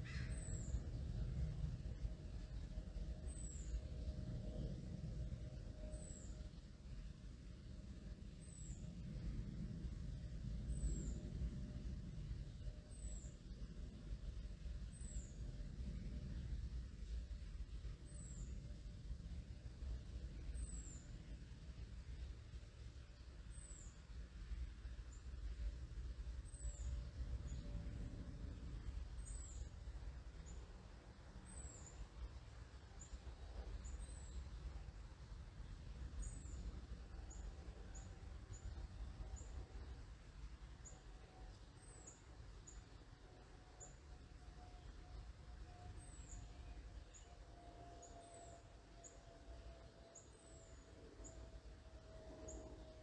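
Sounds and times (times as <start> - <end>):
distant airplane rumble: 0.0 - 53.0.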